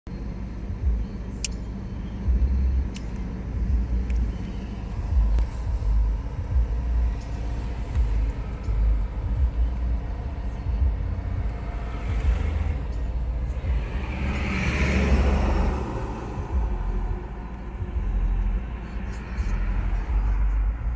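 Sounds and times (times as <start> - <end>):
diesel engine idling unevenly: 0.1 - 20.9.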